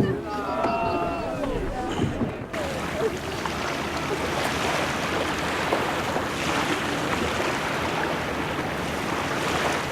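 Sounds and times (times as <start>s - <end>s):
waves washing on shore: 0.0s - 9.9s
wind: 0.0s - 9.9s.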